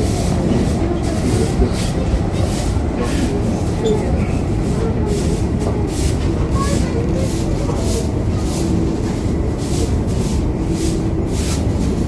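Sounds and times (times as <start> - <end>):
factory machinery rumbling: 0.0 - 12.0.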